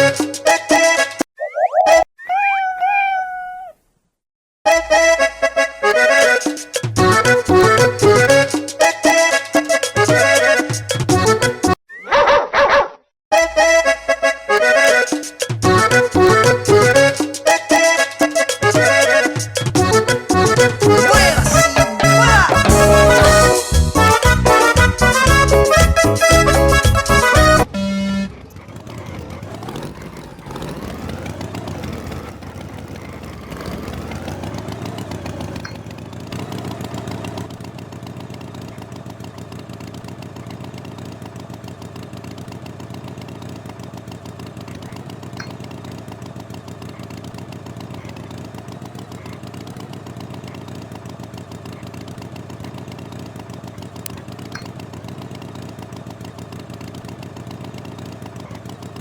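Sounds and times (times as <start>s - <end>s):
engine revving and idling: 5.6s - 11.4s, 15.6s - 59.0s.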